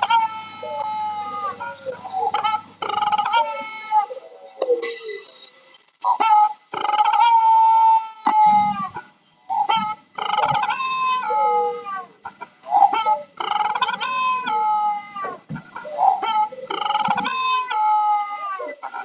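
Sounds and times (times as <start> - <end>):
bird calling: 0.0 - 19.0.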